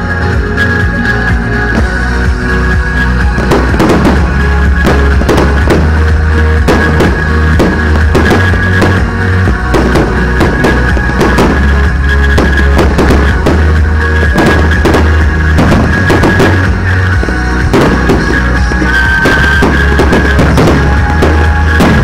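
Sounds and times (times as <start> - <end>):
fireworks bursting: 0.0 - 22.0
loud rock music: 0.0 - 22.0.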